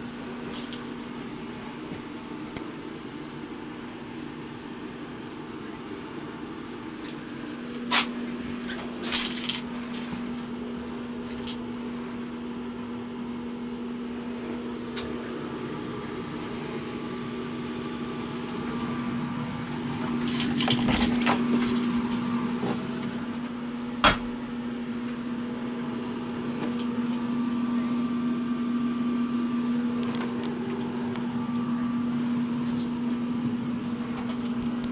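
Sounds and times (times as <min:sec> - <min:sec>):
machine humming: 0:00.0 - 0:34.9.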